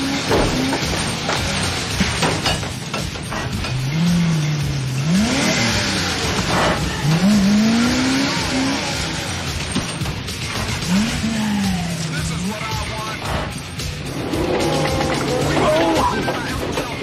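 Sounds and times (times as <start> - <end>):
truck engine revving: 0.0 - 17.0
tyres churning through dirt: 0.0 - 17.0.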